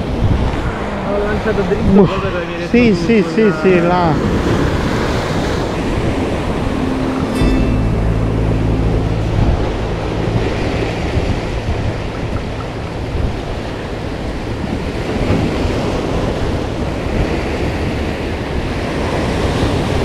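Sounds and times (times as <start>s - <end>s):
waves splashing against seawall: 0.0s - 6.6s, 10.5s - 20.0s
wind on microphone: 0.0s - 20.0s.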